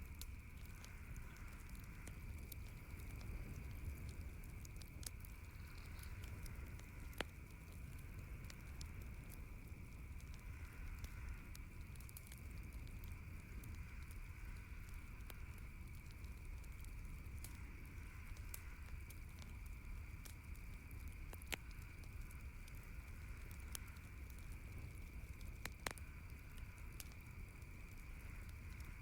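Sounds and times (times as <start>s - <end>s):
campfire crackling and popping: 0.0s - 29.0s
steady low rumble: 0.0s - 29.0s.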